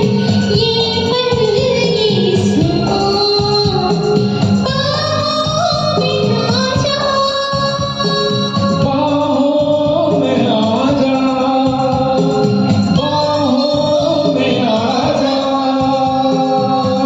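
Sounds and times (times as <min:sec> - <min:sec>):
karaoke backing track: 0:00.0 - 0:17.0
woman singing: 0:00.0 - 0:17.0.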